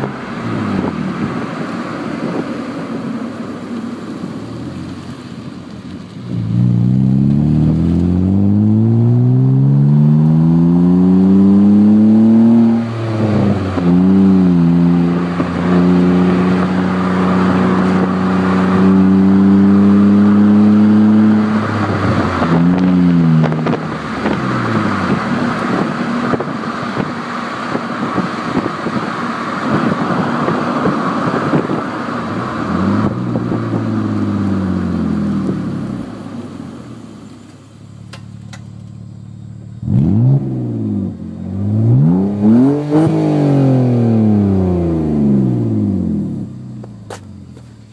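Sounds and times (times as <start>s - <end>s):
car exhaust while accelerating: 0.0s - 47.9s
wind and road noise: 0.0s - 47.9s.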